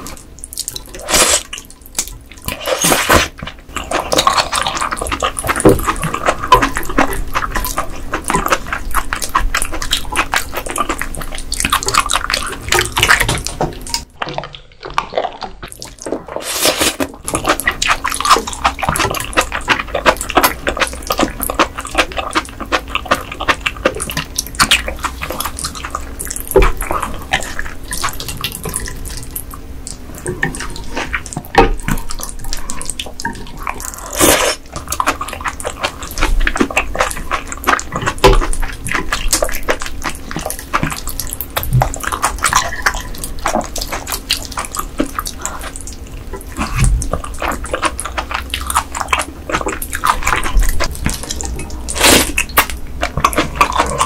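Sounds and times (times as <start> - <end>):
wet chewing and slurping: 0.0 - 54.0.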